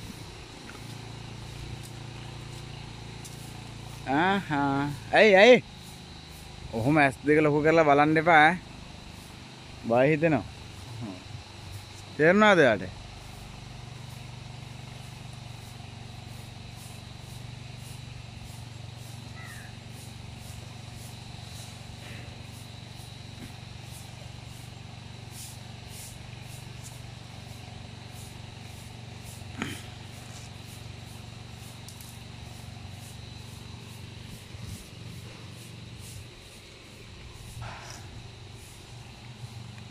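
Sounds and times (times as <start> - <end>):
faint outdoor background noise: 0.0 - 39.9
steady low hum: 0.0 - 39.9.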